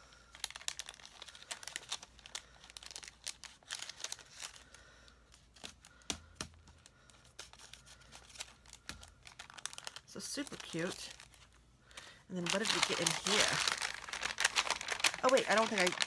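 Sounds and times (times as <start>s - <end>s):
cellophane packet crinkling: 0.0s - 6.0s, 6.7s - 16.0s.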